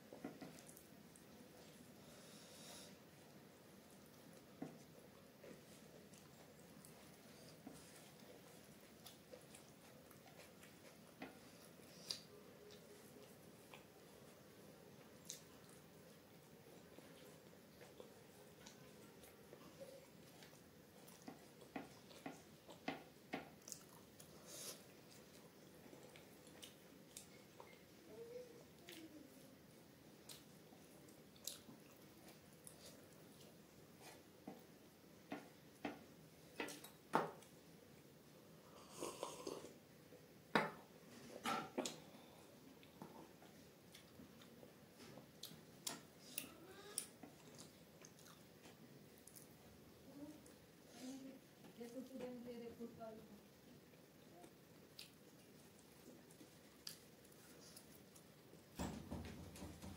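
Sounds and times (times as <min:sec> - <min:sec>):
person chewing food: 0:00.2 - 0:28.0, 0:28.7 - 0:39.9, 0:41.8 - 0:49.7, 0:53.5 - 0:58.6.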